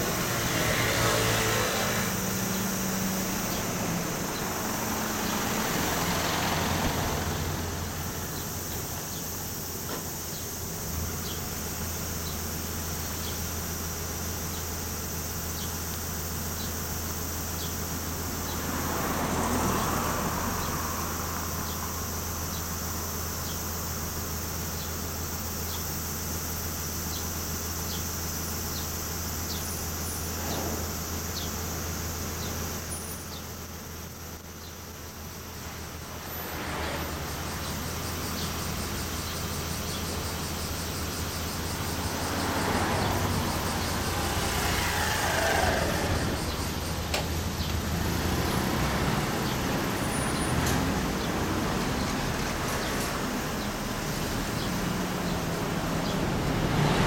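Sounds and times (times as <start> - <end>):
vehicles passing by: 0.0 - 57.0.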